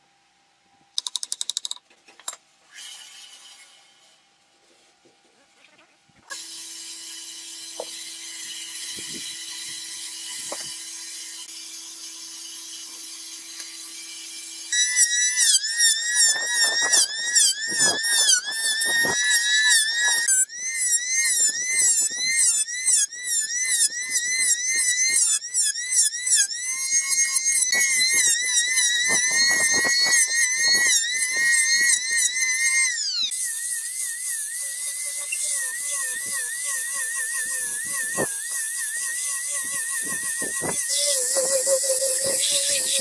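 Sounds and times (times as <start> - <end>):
electric hand planer whining: 6.3 - 43.0.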